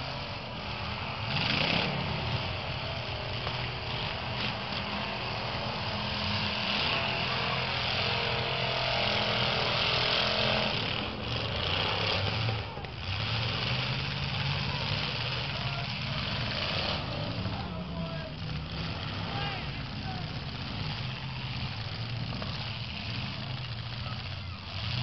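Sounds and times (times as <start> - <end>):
car engines revving: 0.0 - 25.0
crowd voices: 0.0 - 25.0.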